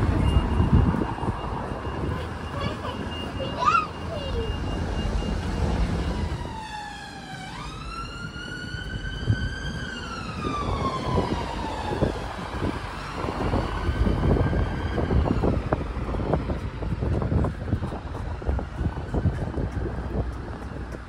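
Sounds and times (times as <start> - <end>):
emergency siren wailing: 0.0 - 20.2
road traffic noise: 0.0 - 21.0.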